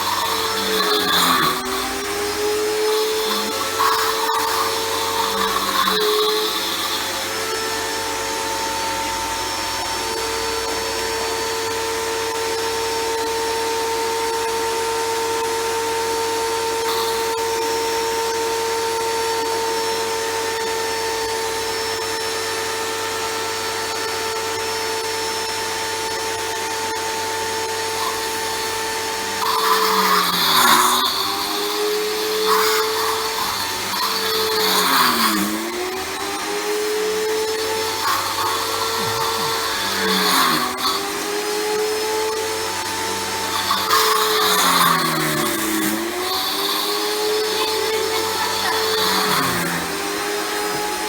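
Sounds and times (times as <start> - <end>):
pressure washer motor whine: 0.0 - 51.0.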